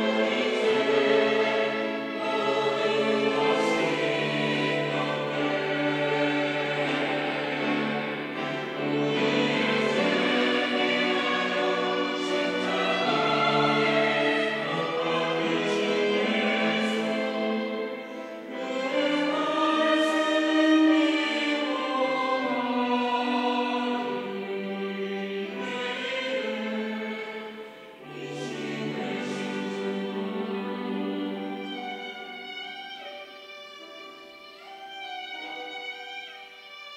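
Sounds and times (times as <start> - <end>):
church choir singing: 0.0 - 36.9.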